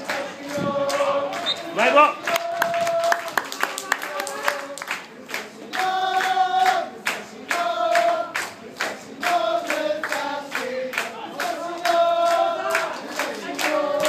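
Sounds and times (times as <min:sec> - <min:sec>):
crowd chanting a song: 0:00.0 - 0:14.0
rhythmic clapping: 0:00.0 - 0:14.0.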